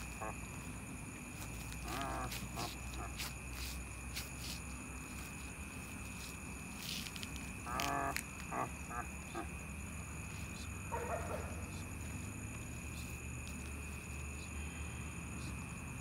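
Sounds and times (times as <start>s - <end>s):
night insects droning: 0.0s - 16.0s.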